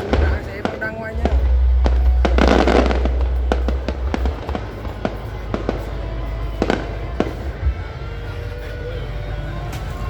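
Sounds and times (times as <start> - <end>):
fireworks bangs: 0.0 - 8.6
low rumble: 0.0 - 10.0.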